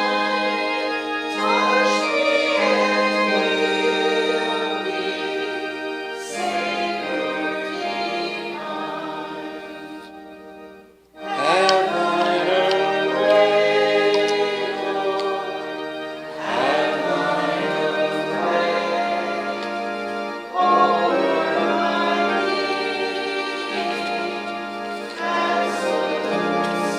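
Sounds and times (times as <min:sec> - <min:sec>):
congregation singing a hymn: 0:00.0 - 0:26.9
organ accompaniment: 0:00.0 - 0:26.9.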